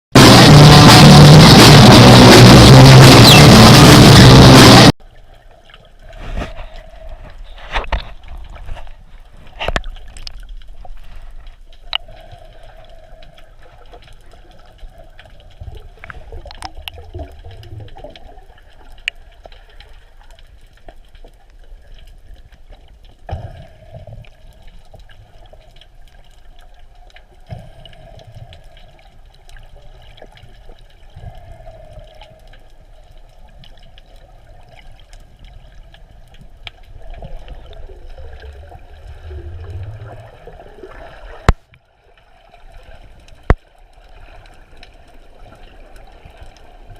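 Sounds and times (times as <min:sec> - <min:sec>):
muffled underwater wash: 0:00.2 - 0:46.9
low rumbles of water movement: 0:04.5 - 0:46.9.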